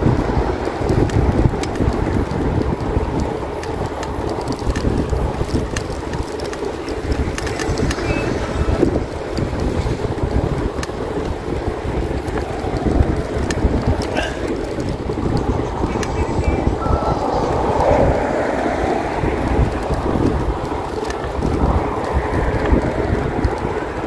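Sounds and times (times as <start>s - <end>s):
wind rushing over microphone: 0.0s - 24.0s
faint clicks: 0.5s - 23.8s.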